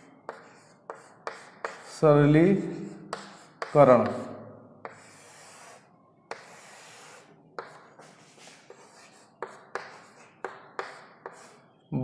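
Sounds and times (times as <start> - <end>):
chalk tapping on a chalkboard: 0.0 - 2.0, 2.6 - 11.6
chalk scratching on a chalkboard: 0.0 - 4.2, 4.8 - 11.7.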